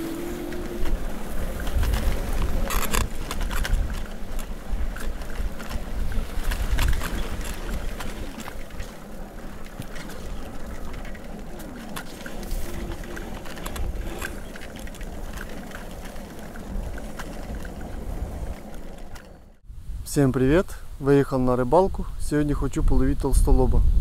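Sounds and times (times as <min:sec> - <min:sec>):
bicycle rattling and knocking: 0:00.0 - 0:19.6
wind rumbling on microphone: 0:00.0 - 0:24.0.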